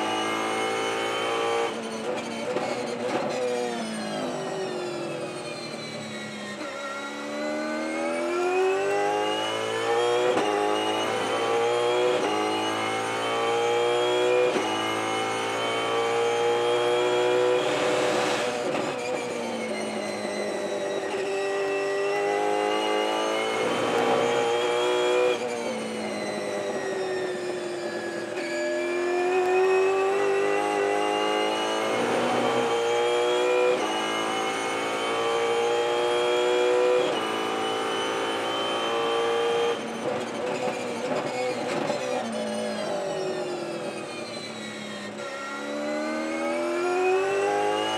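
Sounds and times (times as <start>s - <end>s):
racing car engine revving: 0.0s - 3.2s, 6.5s - 19.1s, 19.7s - 26.4s, 28.2s - 47.9s.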